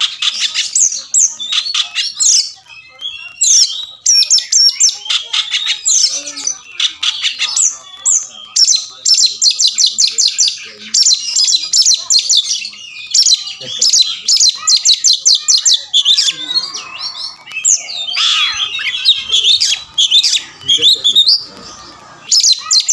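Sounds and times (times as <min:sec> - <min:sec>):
bird singing whistled notes: 0:00.0 - 0:22.9.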